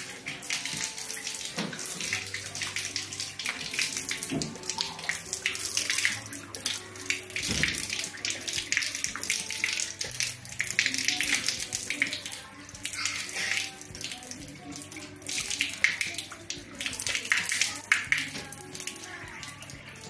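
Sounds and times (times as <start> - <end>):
tap water running: 0.0 - 20.0
water splashing into hands: 0.3 - 18.6.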